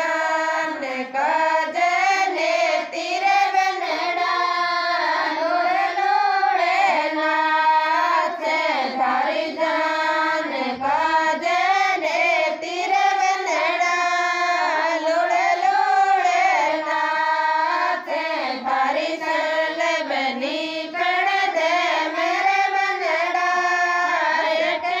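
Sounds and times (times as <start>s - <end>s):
woman singing unaccompanied: 0.0s - 25.0s.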